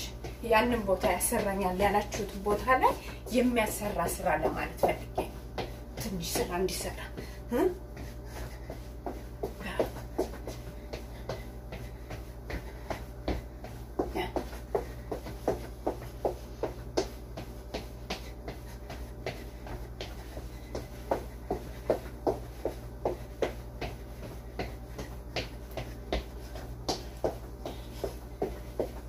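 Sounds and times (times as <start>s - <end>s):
steady low hum: 0.0s - 29.0s
feet stepping on floor: 0.1s - 29.0s.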